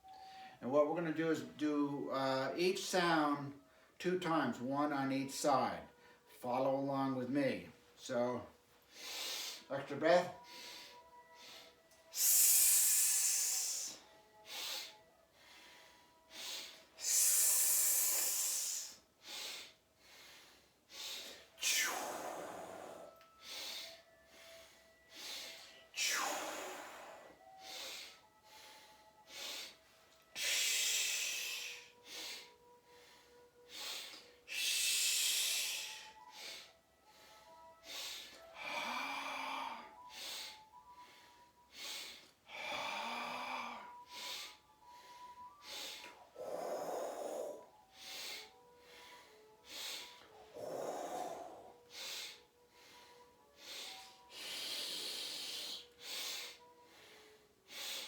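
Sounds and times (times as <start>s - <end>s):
faint background music: 0.0s - 58.0s.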